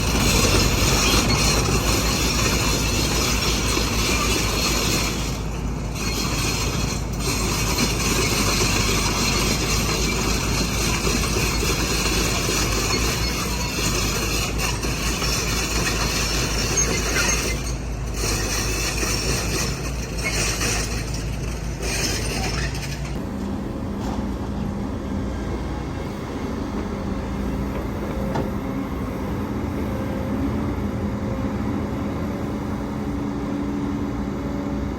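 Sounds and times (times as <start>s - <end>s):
diesel engines of heavy machinery: 0.0s - 34.9s
steady engine hum: 0.0s - 34.9s.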